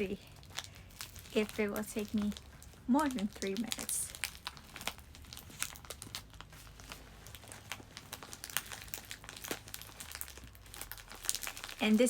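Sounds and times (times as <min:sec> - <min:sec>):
package packaging crinkling and tearing: 0:00.0 - 0:12.0.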